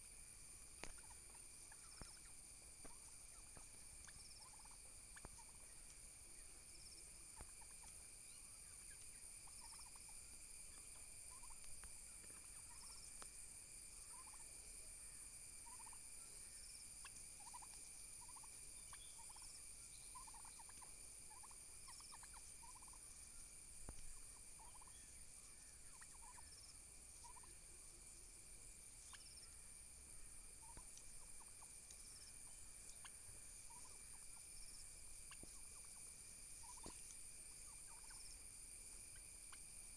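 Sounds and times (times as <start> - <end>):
turkeys calling: 0.6 - 14.5, 15.6 - 38.4.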